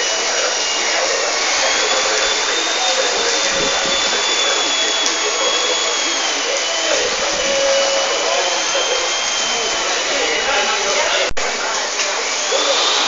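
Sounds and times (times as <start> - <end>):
rushing air hiss: 0.0 - 13.0
small electric motor whining: 0.0 - 13.0.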